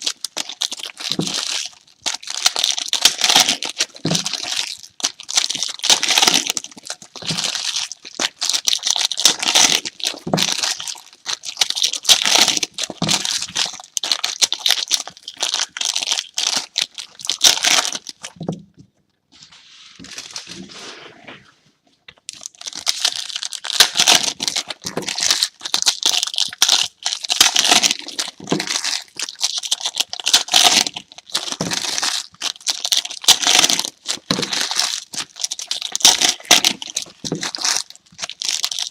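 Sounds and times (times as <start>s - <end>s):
card pack wrappers tearing: 0.0s - 18.4s, 22.3s - 38.9s.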